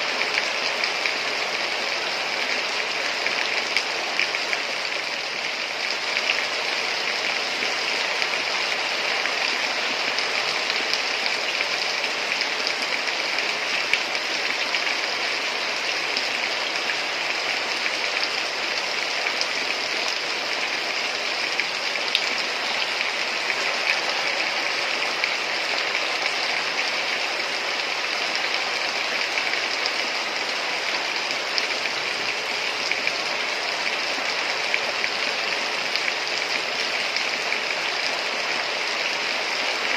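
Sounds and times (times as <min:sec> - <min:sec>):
heavy rain: 0:00.0 - 0:39.9
raindrops pattering: 0:00.0 - 0:39.9.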